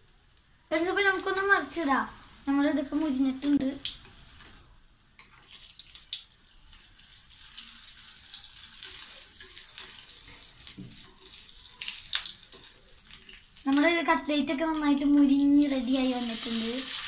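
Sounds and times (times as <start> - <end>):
chicken sizzling in oil: 0.9 - 17.0.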